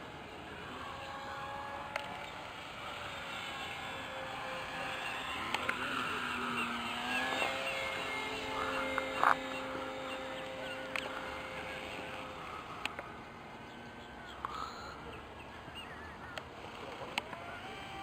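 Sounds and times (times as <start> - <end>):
model airplane engine droning: 0.0 - 18.0
birds chirping: 0.2 - 17.8.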